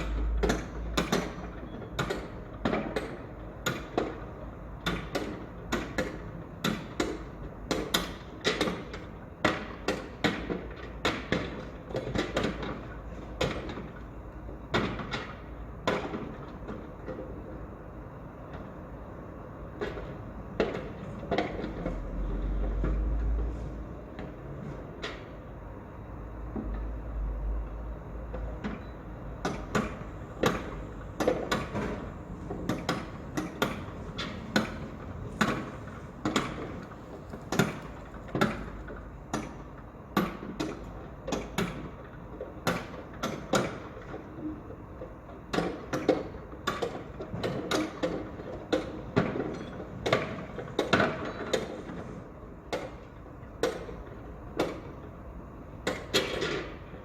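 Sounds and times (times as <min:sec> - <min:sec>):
construction knocks and bangs: 0:00.0 - 0:57.0
steady background noise: 0:00.0 - 0:57.0.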